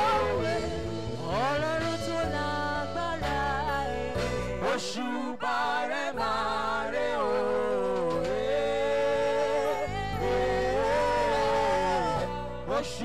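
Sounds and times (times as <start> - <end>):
backing singers: 0.0 - 13.0
instrumental backing: 0.0 - 13.0
lead vocalist singing long notes: 0.0 - 13.0.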